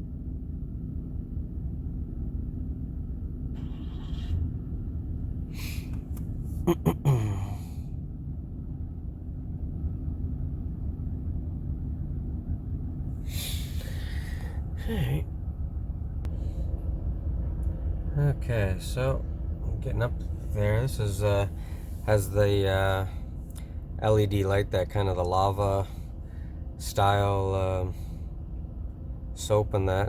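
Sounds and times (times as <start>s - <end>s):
van engine idling: 0.0s - 30.0s.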